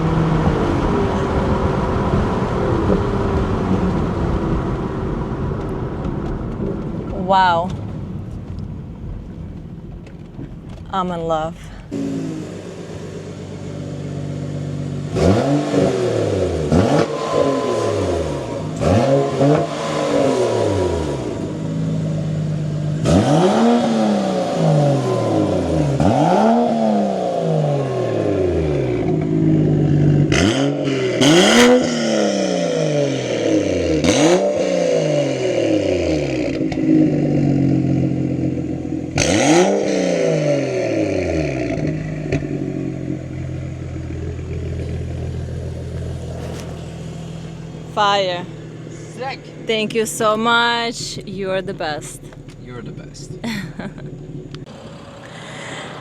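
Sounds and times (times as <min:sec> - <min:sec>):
car engine revving: 0:00.0 - 0:56.0
exhaust crack: 0:00.0 - 0:56.0.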